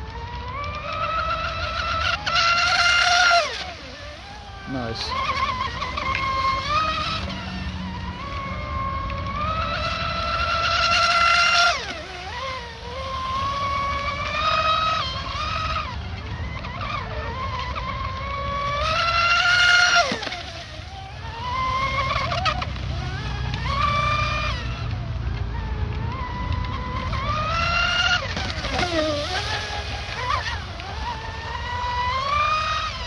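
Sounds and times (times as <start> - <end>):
rc speedboat motor whine: 0.0 - 33.0.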